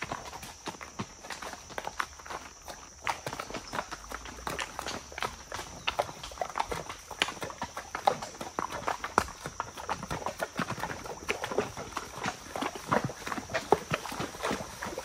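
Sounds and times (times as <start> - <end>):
hooves splashing through water: 0.0 - 15.0
horse hooves clopping on stones: 0.0 - 15.0.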